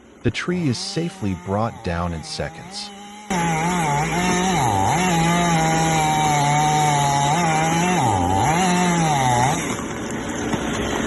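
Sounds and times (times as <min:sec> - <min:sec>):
chainsaw cutting wood: 0:00.5 - 0:11.0.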